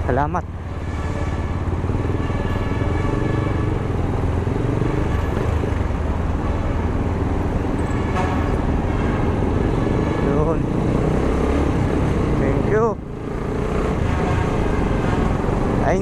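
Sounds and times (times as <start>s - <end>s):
motorcycle engine running: 0.0s - 16.0s
road noise hiss: 0.0s - 16.0s.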